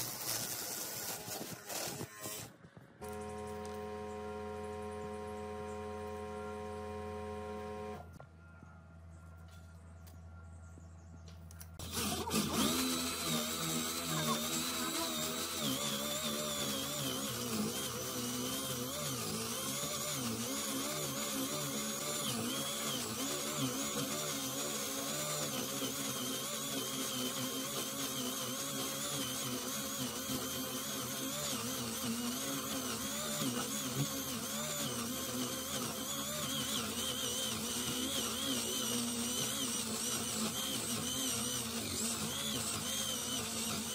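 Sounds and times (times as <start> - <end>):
electric drill boring into wood: 0.0 - 8.0, 11.8 - 43.9.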